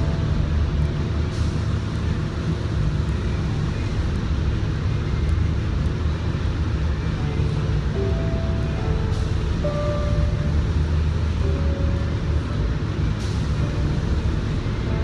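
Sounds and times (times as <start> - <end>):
booth ventilation rumbling: 0.0 - 15.0.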